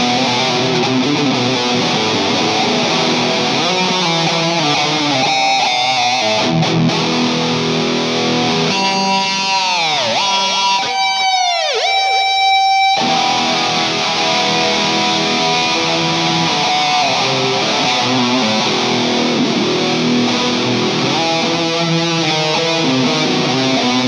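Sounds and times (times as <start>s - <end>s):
electric guitar lead line: 0.0s - 24.0s.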